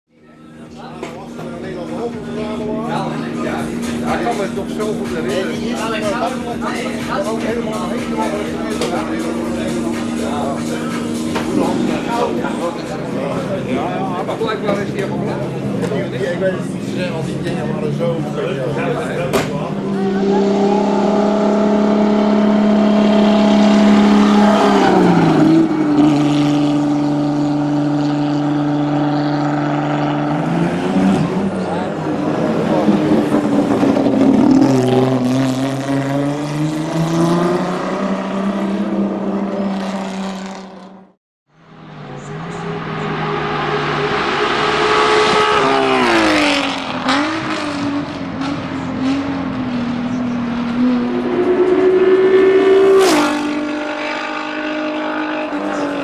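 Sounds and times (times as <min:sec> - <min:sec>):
race car engine passing by: 0:00.6 - 0:56.0.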